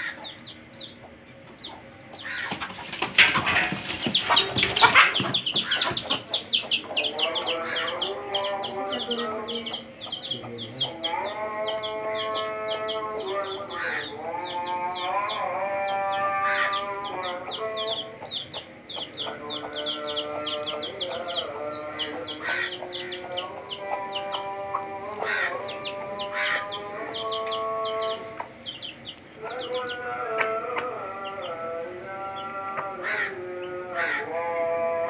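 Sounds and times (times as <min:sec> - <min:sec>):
baby chicks peeping: 0:00.0 - 0:35.0.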